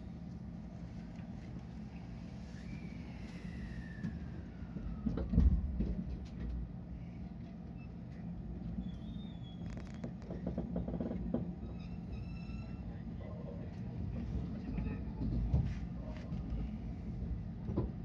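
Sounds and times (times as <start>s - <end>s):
train cabin low hum: 0.0s - 18.0s.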